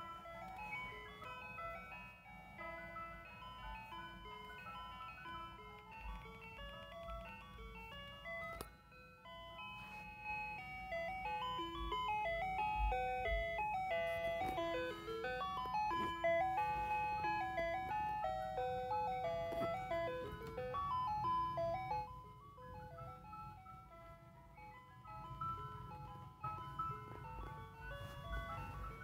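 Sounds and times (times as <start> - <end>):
toy ice cream truck jingle: 0.0 - 29.0.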